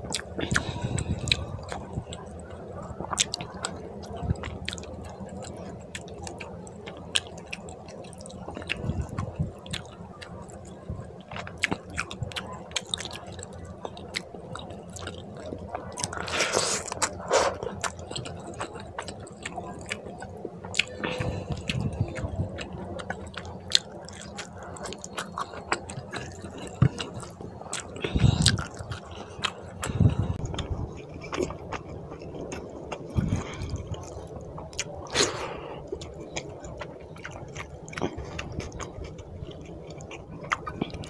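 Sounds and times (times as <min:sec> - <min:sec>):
wet chewing and squishing: 0:00.0 - 0:41.0.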